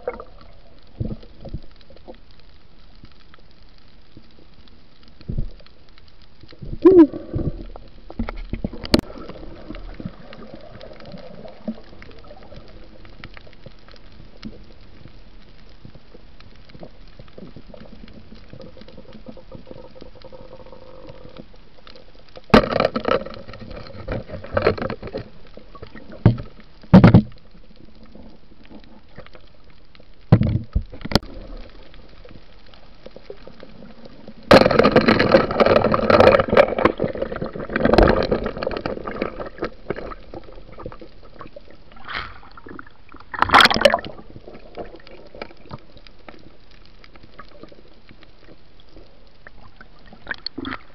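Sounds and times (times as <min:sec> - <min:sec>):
steady low underwater hiss: 0:00.0 - 0:50.9
water rushing and bubbling: 0:00.0 - 0:50.9.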